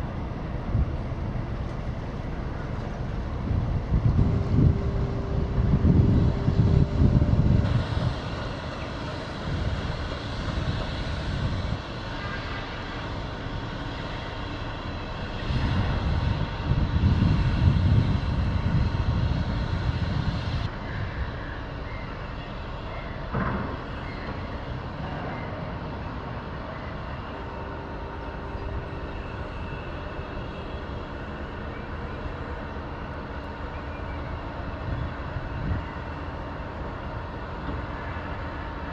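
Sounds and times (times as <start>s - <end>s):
wind buffeting microphone: 0.0s - 21.8s, 23.3s - 38.9s
ship engines droning: 0.0s - 38.9s.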